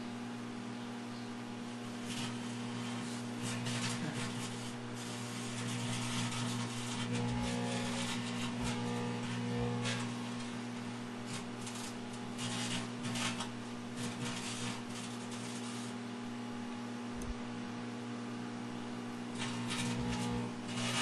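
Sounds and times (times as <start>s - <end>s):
microwave oven humming: 0.0s - 21.0s
crackling from arcing: 1.6s - 17.7s, 18.6s - 21.0s.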